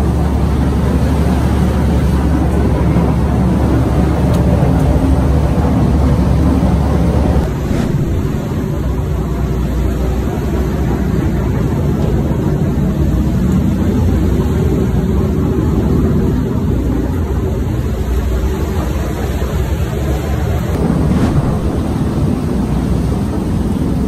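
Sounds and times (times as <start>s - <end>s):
engine low rumble: 0.0s - 24.0s.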